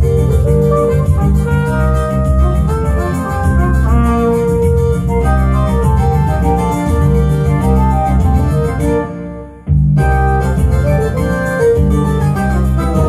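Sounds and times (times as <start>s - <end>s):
organ-like keyboard and bass: 0.0s - 13.0s
trumpet playing a melody: 0.0s - 13.0s.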